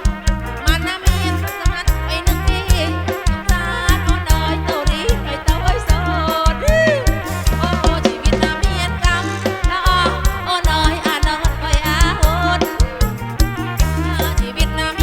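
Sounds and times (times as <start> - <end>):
amplified folk dance band: 0.0 - 15.0
pounding bass beat: 0.0 - 15.0.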